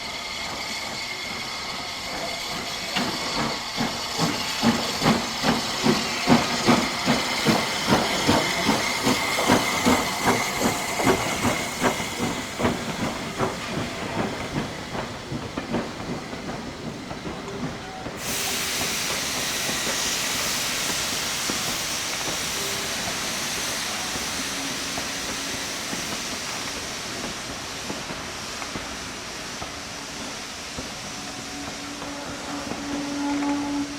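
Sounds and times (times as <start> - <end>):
steam hissing: 0.0 - 33.9
steam locomotive exhaust beats: 0.0 - 33.9.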